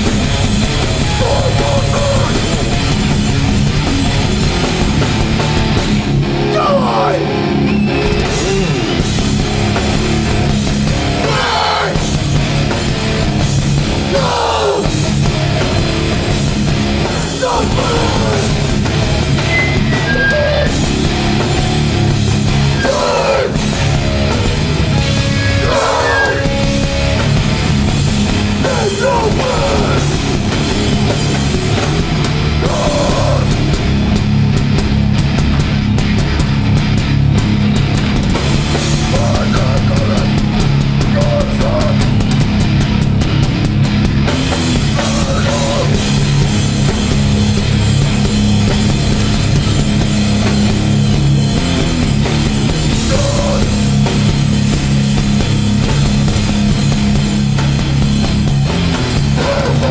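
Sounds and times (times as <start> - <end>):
loud heavy rock band playing: 0.0 - 59.9.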